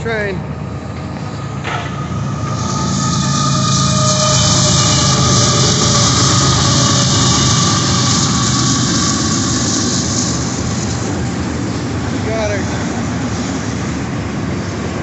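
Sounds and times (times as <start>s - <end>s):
diesel locomotive engine drone: 0.0s - 15.0s
freight cars rolling: 0.0s - 15.0s
high engine whine: 0.0s - 15.0s.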